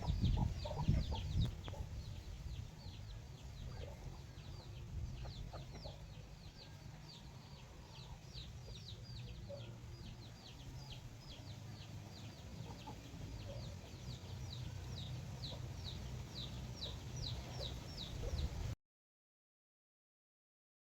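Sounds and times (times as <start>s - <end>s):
chicks peeping: 0.0s - 18.8s.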